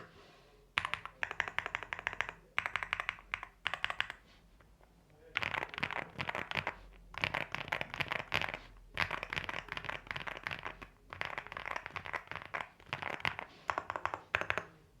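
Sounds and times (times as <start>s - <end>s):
mechanical keyboard typing: 0.8s - 4.2s, 5.4s - 14.8s.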